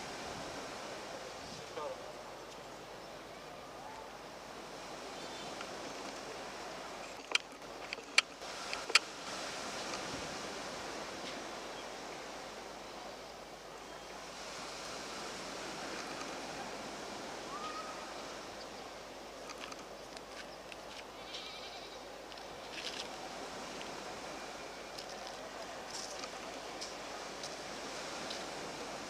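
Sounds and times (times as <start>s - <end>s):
sea and wind noise: 0.0s - 29.0s.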